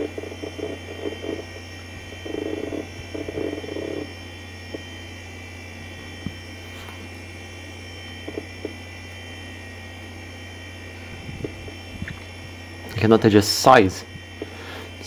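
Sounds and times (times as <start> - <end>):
faint high steady tones: 0.0 - 15.0
low electrical hum: 0.0 - 15.0.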